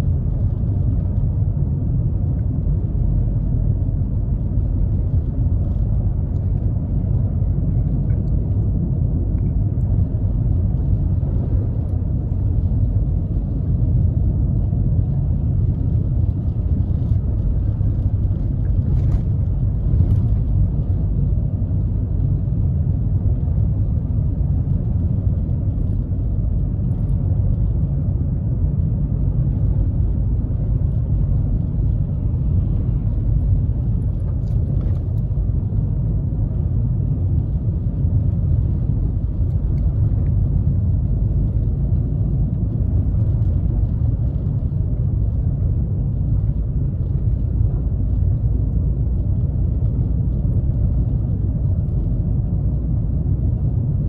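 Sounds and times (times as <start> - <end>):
car engine: 0.0 - 54.0
tyre and road noise on snow: 0.0 - 54.0.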